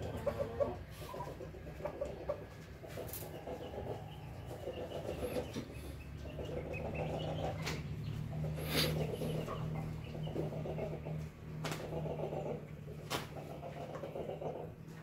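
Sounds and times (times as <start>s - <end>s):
chickens clucking softly: 0.0s - 15.0s
steady low hum: 0.0s - 15.0s.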